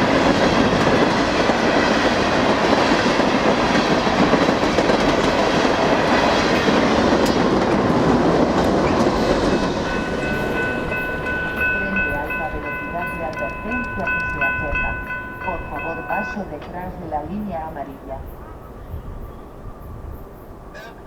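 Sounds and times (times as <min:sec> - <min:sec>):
wheels clacking over rail joints: 0:00.0 - 0:18.1
freight cars rumbling past: 0:00.0 - 0:18.4.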